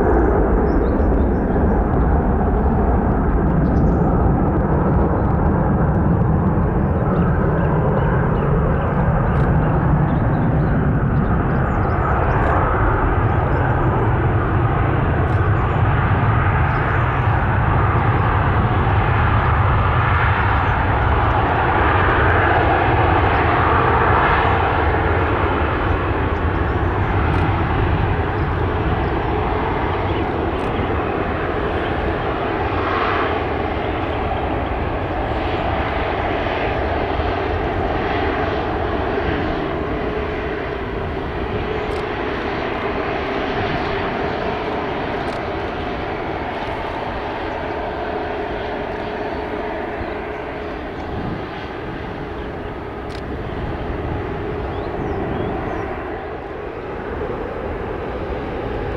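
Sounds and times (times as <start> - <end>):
airliner engines passing: 0.0 - 58.9.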